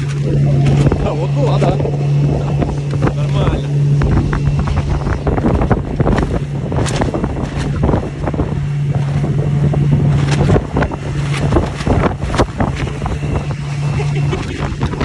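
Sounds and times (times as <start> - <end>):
engine running: 0.0 - 15.0
wind on microphone: 0.0 - 15.0.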